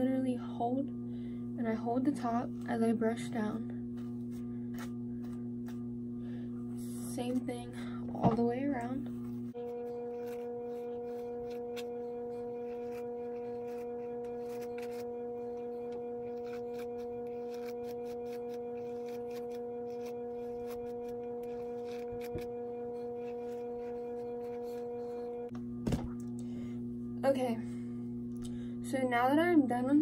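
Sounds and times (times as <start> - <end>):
held low electronic tone: 0.0 - 30.0.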